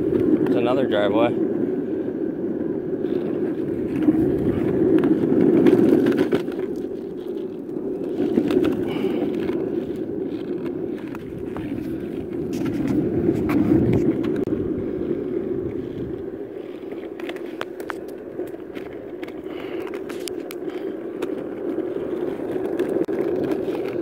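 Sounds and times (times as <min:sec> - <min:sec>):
wheels clicking over cracks: 0:00.0 - 0:01.8, 0:02.7 - 0:24.0
scooter wheels rumbling on asphalt: 0:00.0 - 0:24.0.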